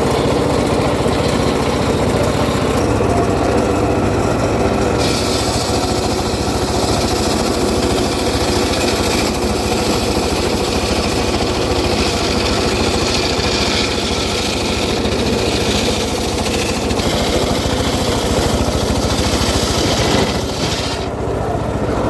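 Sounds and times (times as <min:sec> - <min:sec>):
petrol saw engine running: 0:00.0 - 0:22.0.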